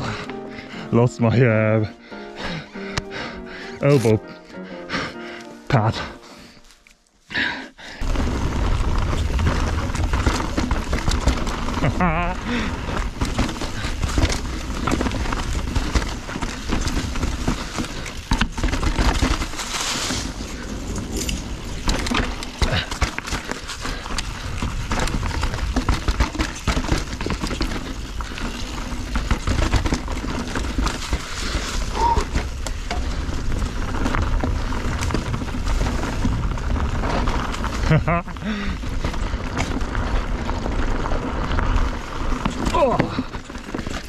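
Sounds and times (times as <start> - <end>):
bike knocks and rattles: 8.0 - 44.0
tyres crunching leaves and stones: 8.0 - 44.0.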